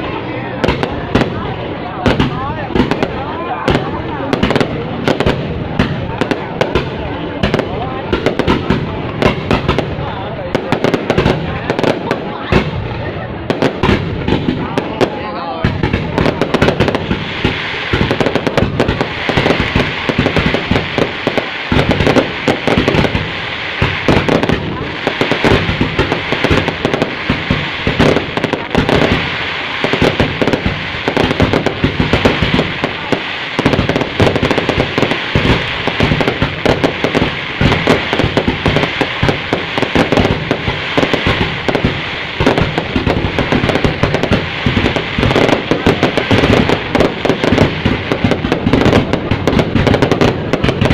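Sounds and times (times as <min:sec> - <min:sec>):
fireworks crackling and banging: 0:00.0 - 0:50.9.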